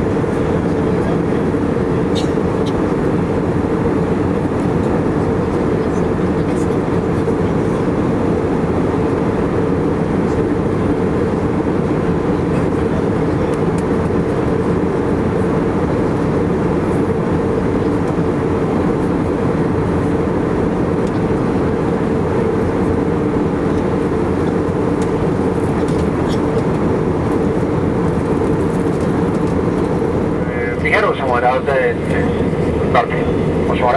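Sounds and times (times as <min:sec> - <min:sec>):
airplane cabin drone: 0:00.0 - 0:33.9.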